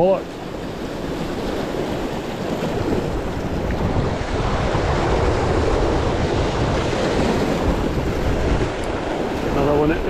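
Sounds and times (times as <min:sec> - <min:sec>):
surf washing against rocks: 0:00.0 - 0:10.0
wind rumbling on microphone: 0:00.0 - 0:10.0.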